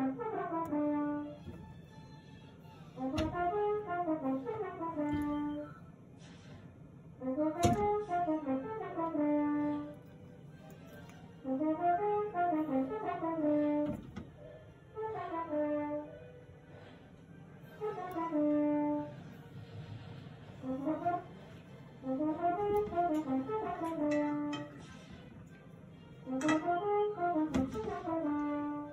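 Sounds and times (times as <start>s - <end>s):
brass-like background music: 0.0s - 28.9s.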